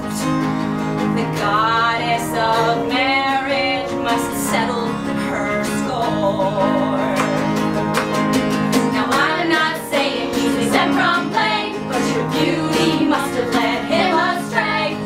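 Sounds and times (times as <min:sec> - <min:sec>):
acoustic guitar playing chords: 0:00.0 - 0:15.0
woman singing: 0:01.0 - 0:07.6, 0:08.8 - 0:15.0.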